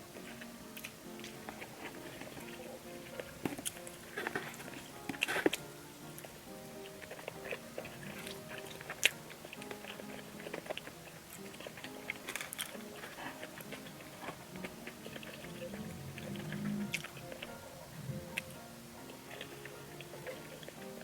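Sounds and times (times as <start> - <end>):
crisp crunches: 0.0 - 21.0
person chewing pizza: 0.0 - 21.0
soft background music: 0.0 - 21.0.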